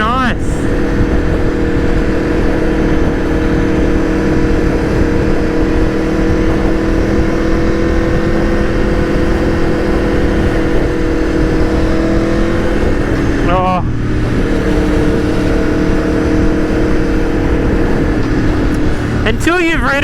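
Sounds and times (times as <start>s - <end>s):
motorcycle engine running: 0.0s - 20.0s
wind over microphone: 0.0s - 20.0s.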